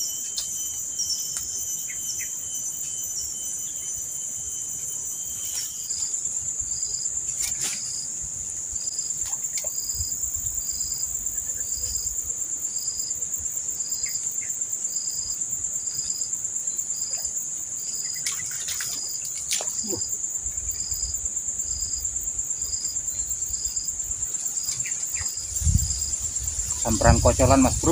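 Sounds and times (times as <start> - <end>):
insect buzz pulsing: 0.0 - 27.9
insect chirp: 0.0 - 27.9.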